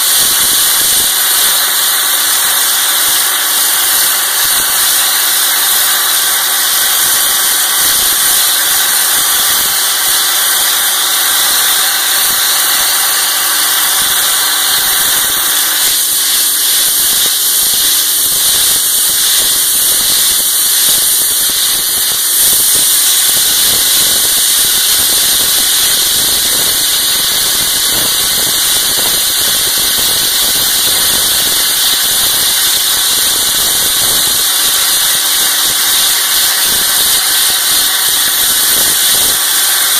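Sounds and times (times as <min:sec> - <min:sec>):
abrasive blasting hiss: 0:00.0 - 0:39.9.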